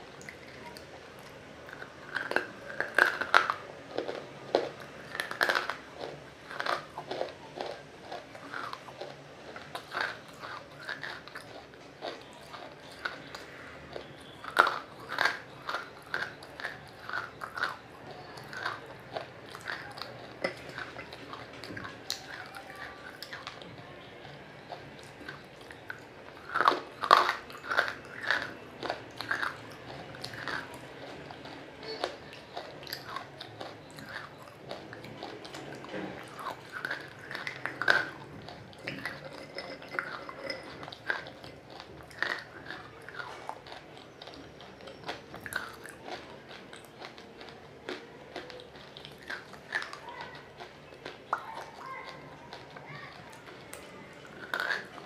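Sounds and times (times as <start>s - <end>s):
wet crunchy chewing: 0.0s - 55.0s.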